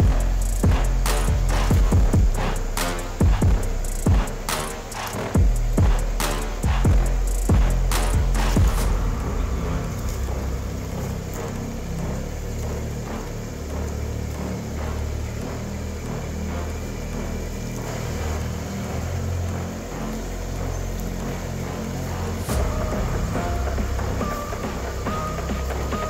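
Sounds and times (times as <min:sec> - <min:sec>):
car engine at low revs: 0:00.0 - 0:26.0.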